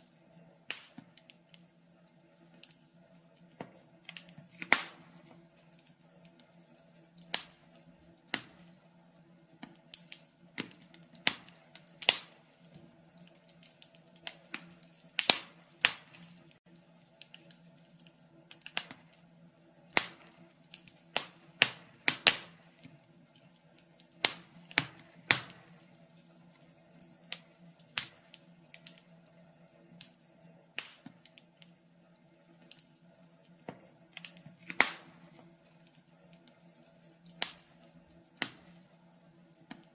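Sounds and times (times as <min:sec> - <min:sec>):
logs crackling in fireplace: 0:00.0 - 0:39.9.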